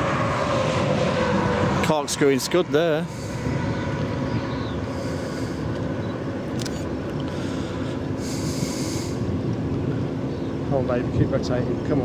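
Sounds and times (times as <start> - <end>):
road and engine rumble in vehicle: 0.0 - 12.0.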